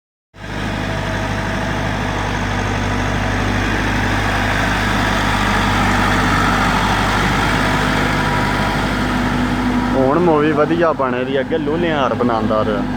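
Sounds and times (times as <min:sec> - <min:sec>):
tractor diesel engine running: 0:00.4 - 0:12.9.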